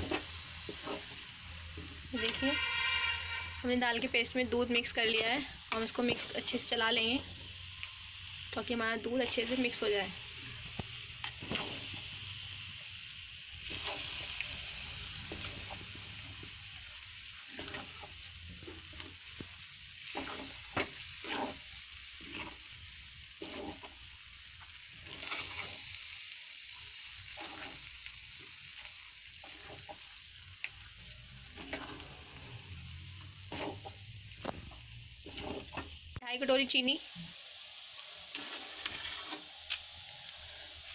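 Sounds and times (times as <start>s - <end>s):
spatula scraping a pan: 0.0s - 7.5s, 8.8s - 12.3s, 13.6s - 36.0s, 38.0s - 40.9s
paste sizzling in a pan: 0.0s - 40.9s.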